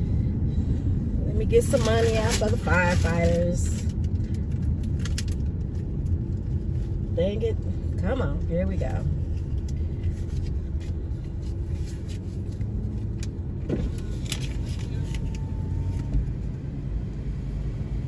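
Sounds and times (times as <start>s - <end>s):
car engine rumble and road noise: 0.0s - 18.0s.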